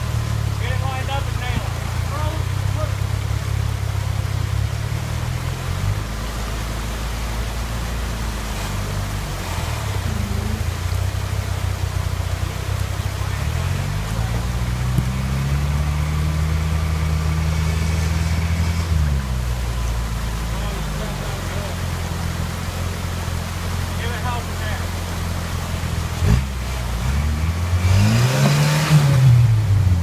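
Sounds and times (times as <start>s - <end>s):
creek water rushing: 0.0s - 30.0s
engine working under load: 0.0s - 30.0s.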